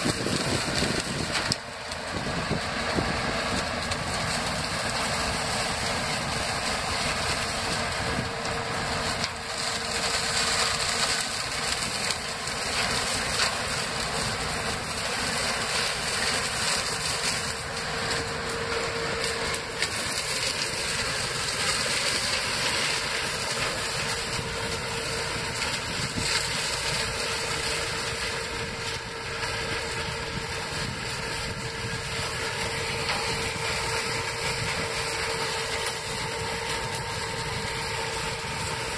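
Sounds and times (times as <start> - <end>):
harvester engine and chopping: 0.0 - 38.9
steady machine whine: 0.0 - 38.9
tractor engine: 0.0 - 38.9.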